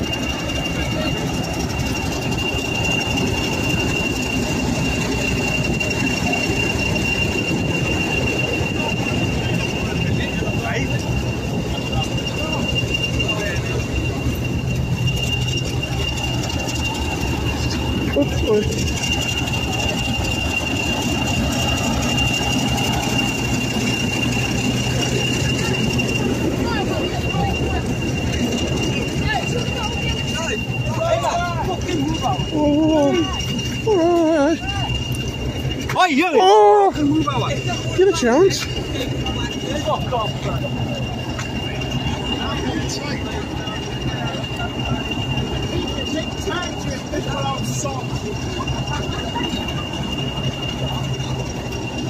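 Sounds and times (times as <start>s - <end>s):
diesel locomotive engines rumbling: 0.0s - 52.0s
high turbocharger whistle: 0.0s - 52.0s.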